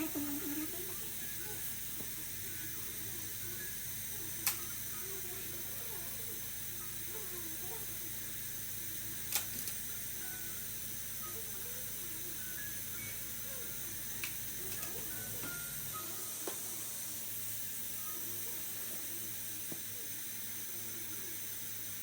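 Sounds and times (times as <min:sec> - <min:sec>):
dental equipment hissing: 0:00.0 - 0:22.0.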